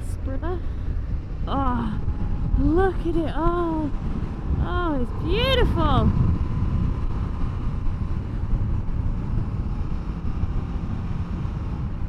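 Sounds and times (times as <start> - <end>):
motorcycle engine and road rumble: 0.0 - 12.0
wind rushing over microphone: 0.0 - 12.0.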